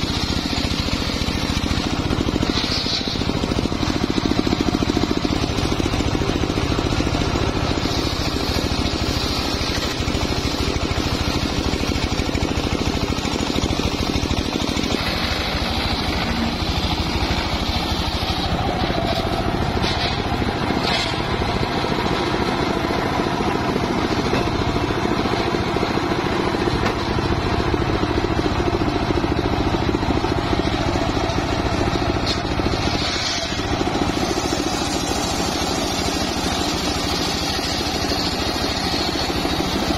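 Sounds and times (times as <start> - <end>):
saw blade cutting log: 0.0 - 27.2, 31.9 - 39.9
circular sawmill running: 0.0 - 39.9.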